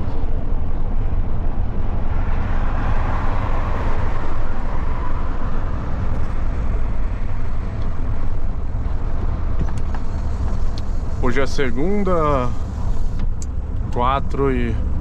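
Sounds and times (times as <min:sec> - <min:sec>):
road and wind noise: 0:00.0 - 0:15.0
truck diesel engine rumbling: 0:00.0 - 0:15.0.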